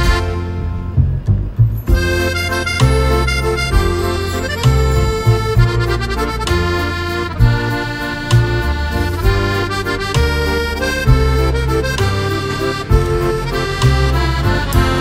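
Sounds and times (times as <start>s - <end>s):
instrumental music with bass line: 0.0s - 15.0s.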